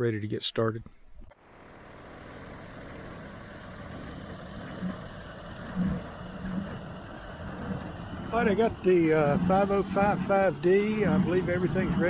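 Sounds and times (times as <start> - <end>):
tractor diesel engine idling: 1.4 - 12.0.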